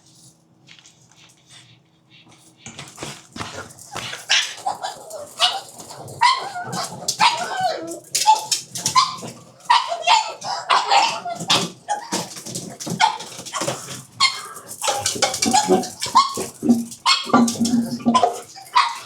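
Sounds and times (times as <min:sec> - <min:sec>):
dogs barking: 0:03.1 - 0:19.0.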